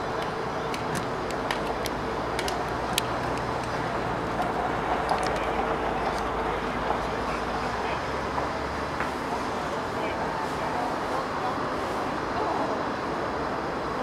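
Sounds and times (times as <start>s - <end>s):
faint distant voices: 0.0s - 14.0s
outdoor rumble and hiss: 0.0s - 14.0s.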